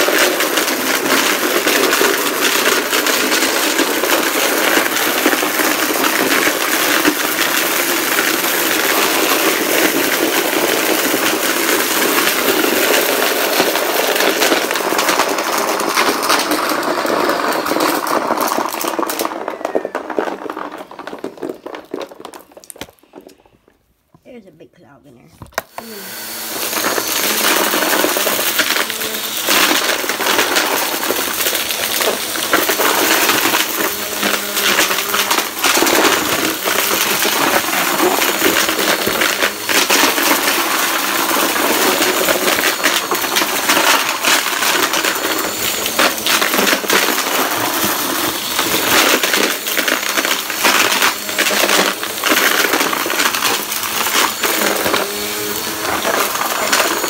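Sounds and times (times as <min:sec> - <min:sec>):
vacuum cleaner running: 0:00.0 - 0:22.2, 0:25.5 - 0:57.0
debris crackling and rattling: 0:00.0 - 0:24.5, 0:26.6 - 0:57.0.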